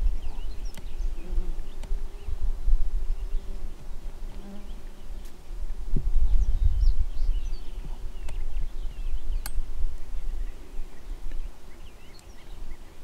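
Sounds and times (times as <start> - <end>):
low microphone rumble: 0.0 - 12.0
small birds chirping: 0.0 - 13.0.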